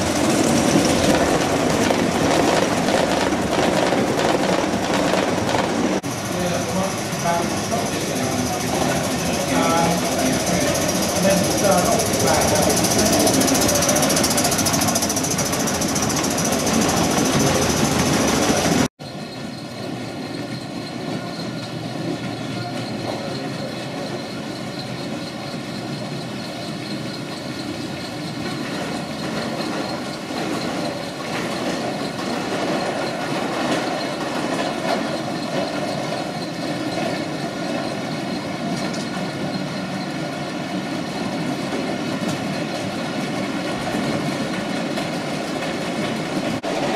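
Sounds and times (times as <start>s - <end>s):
model train wheels rumbling on rails: 0.0s - 46.9s.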